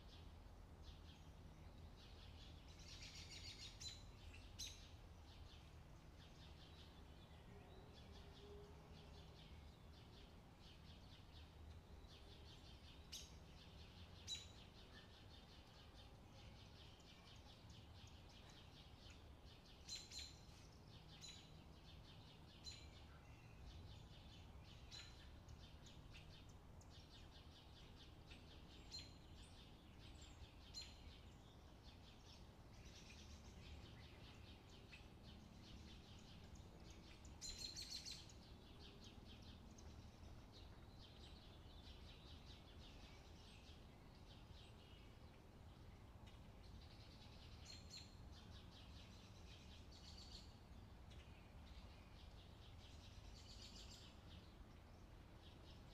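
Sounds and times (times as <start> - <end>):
faint bird chirping: 0.0 - 55.9
low steady hum: 0.0 - 55.9.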